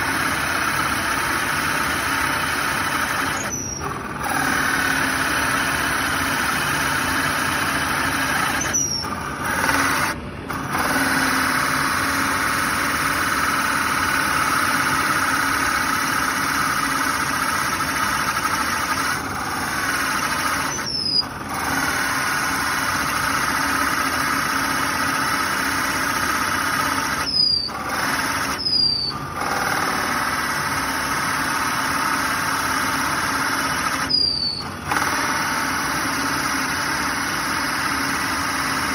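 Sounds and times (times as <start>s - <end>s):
drill press boring wood: 0.0s - 38.9s.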